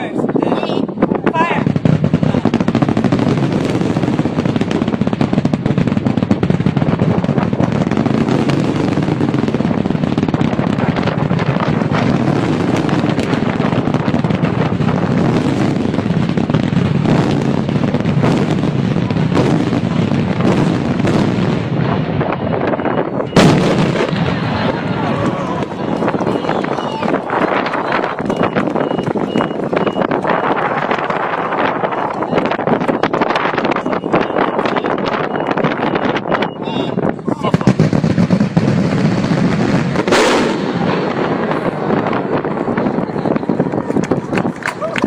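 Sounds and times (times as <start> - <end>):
fireworks bursting: 0.8 - 45.0.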